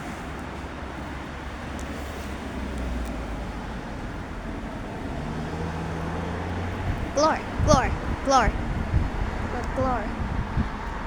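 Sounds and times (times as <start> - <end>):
road traffic rumble and hiss: 0.0 - 11.0
vehicle engine hum: 0.6 - 11.0.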